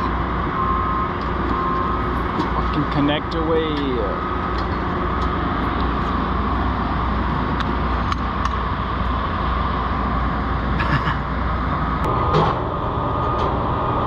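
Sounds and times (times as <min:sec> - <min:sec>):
constant high hum: 0:00.0 - 0:14.0
mechanical drone: 0:00.0 - 0:14.0.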